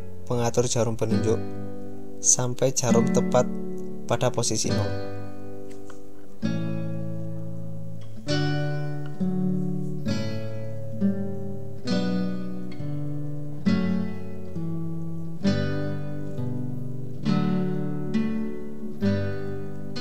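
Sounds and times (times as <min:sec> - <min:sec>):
acoustic guitar plucked chords: 0:00.0 - 0:20.0.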